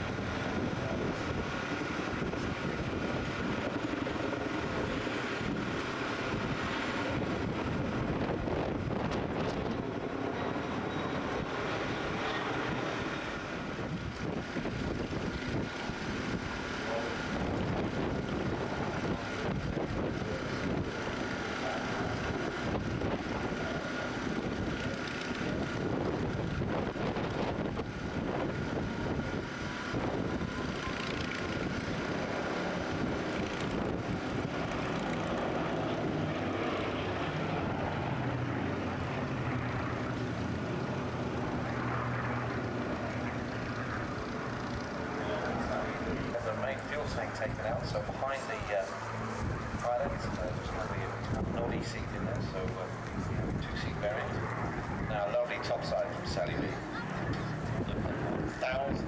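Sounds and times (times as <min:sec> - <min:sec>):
aircraft radial engines droning: 0:00.0 - 0:59.0.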